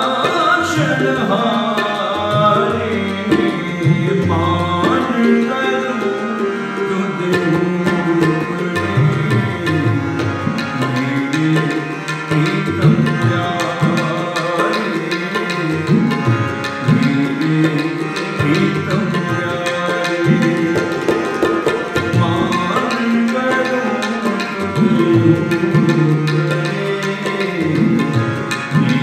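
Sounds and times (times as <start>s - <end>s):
fast tabla strokes: 0.0s - 29.0s
harmonium melody: 0.0s - 29.0s.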